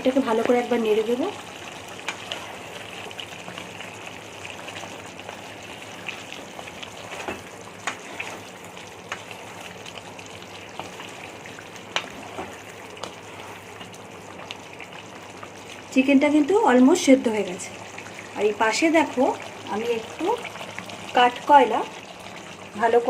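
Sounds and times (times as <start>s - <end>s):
curry sizzling in a pan: 0.0s - 23.0s.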